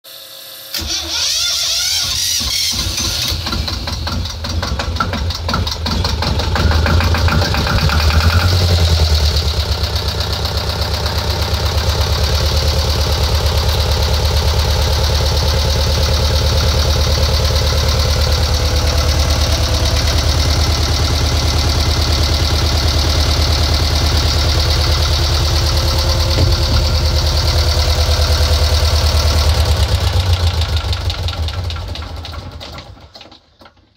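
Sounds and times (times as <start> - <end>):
diesel engine idling: 2.3 - 33.0.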